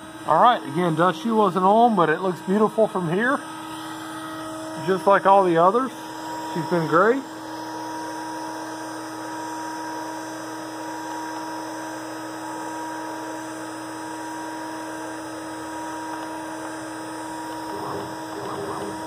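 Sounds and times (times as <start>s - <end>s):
router spindle whine: 0.0s - 19.0s.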